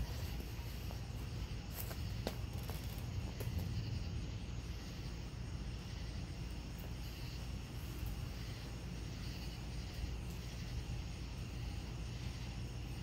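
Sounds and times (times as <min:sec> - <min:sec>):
continuous low rumble: 0:00.0 - 0:13.0
night insects chirring: 0:00.0 - 0:13.0.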